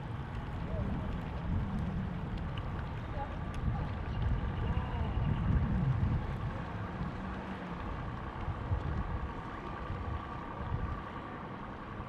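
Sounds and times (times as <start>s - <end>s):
low uneven rumble: 0.0s - 12.0s.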